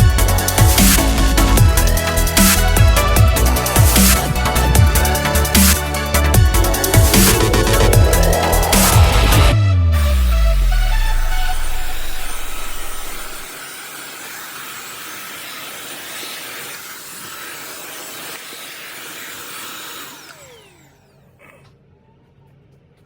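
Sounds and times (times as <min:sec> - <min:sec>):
motor whine spinning down: 0:00.0 - 0:21.4
vacuum cleaner motor running: 0:01.5 - 0:09.6, 0:11.0 - 0:21.6.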